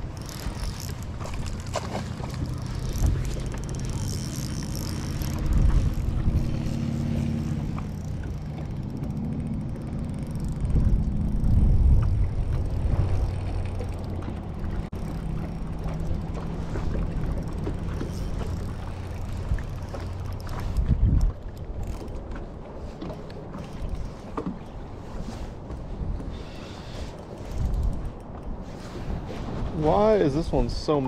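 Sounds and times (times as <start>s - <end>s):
wind on microphone: 0.0s - 13.8s, 18.1s - 22.4s, 23.5s - 31.0s
low motor hum: 0.0s - 29.6s.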